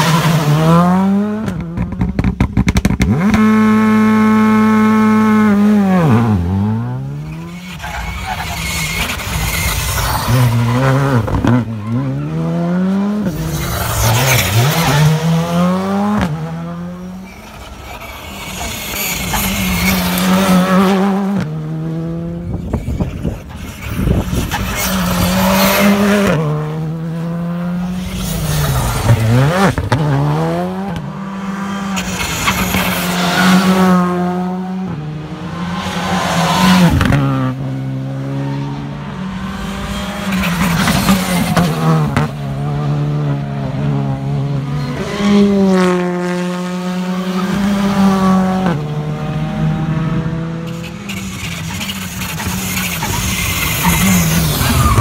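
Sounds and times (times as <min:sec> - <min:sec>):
rally car engine revving through gears: 0:00.0 - 0:23.1, 0:23.7 - 0:55.0.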